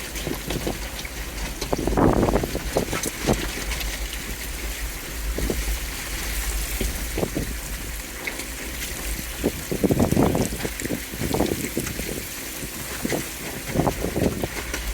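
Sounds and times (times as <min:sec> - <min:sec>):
vehicle rumbling: 0:00.0 - 0:14.9.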